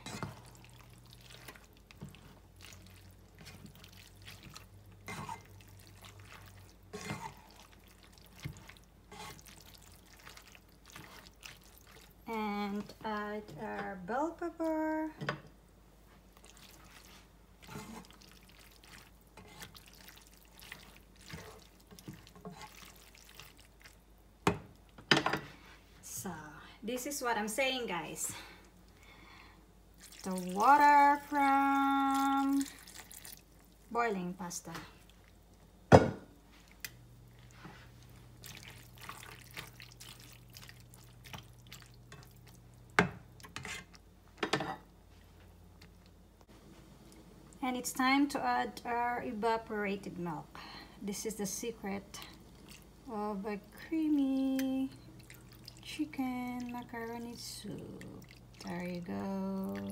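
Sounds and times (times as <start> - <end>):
wet squelching of stirred pasta: 0.0 - 15.0, 16.0 - 35.8, 36.4 - 44.1, 44.8 - 59.9.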